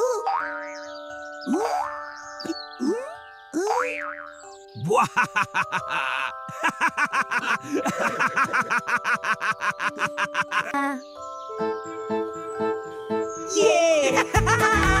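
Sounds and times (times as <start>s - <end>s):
cartoon background music: 0.0s - 15.0s.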